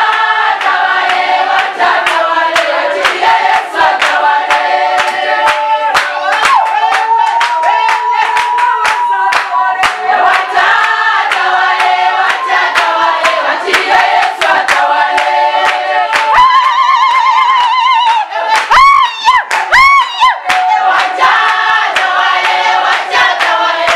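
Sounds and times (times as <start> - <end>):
congregation singing: 0.0 - 19.0, 19.6 - 23.9
hand clapping: 0.0 - 23.9.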